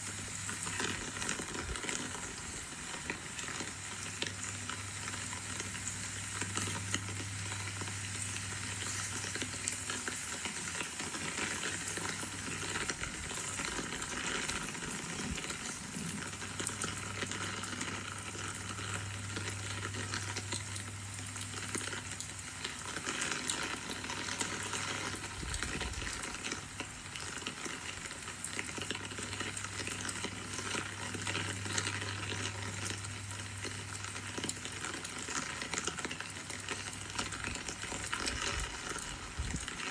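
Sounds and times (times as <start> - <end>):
low steady hum: 0.0 - 39.9
rain falling steadily: 0.0 - 39.9.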